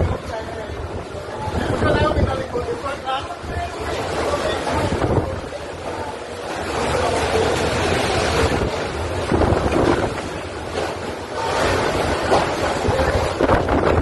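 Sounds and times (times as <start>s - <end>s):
strong wind buffeting microphone: 0.0s - 6.1s, 7.7s - 14.0s.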